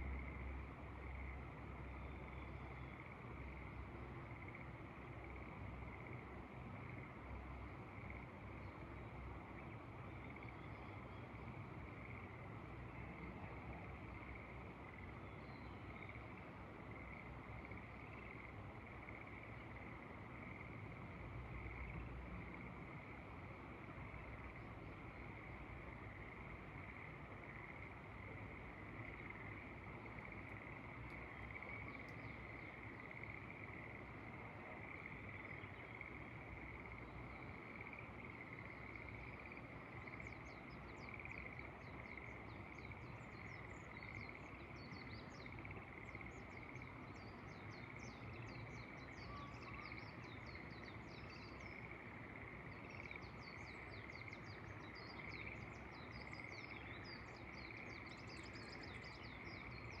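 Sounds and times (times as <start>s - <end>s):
faint frog chorus: 0.0s - 60.0s.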